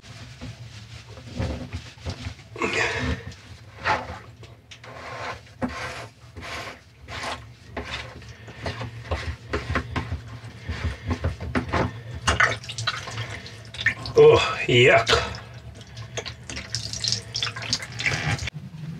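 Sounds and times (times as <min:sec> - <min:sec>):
threads and rag scraping: 0:00.0 - 0:18.6.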